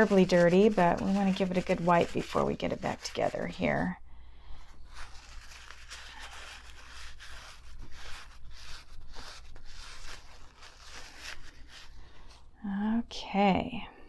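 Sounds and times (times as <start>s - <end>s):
cloth rubbing strokes: 0.0s - 4.0s, 4.6s - 12.6s.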